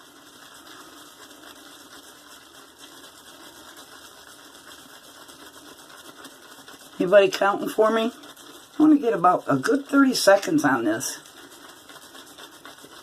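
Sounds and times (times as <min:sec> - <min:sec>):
shaving brush swirling on soap: 0:00.0 - 0:13.0.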